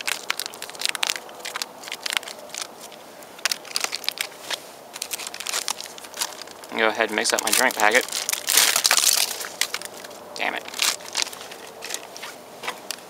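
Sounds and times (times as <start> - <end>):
foil pouch crinkling: 0.0 - 13.0.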